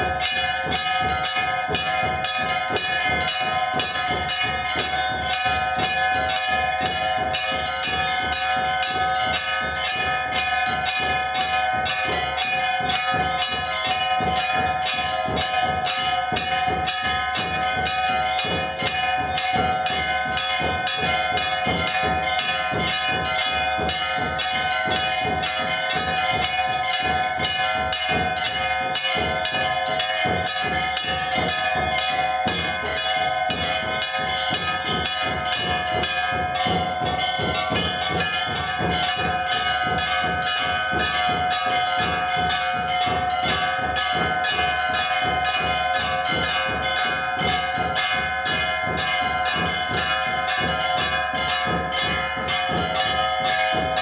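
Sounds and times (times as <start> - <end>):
bells ringing rapidly: 0.0 - 54.0.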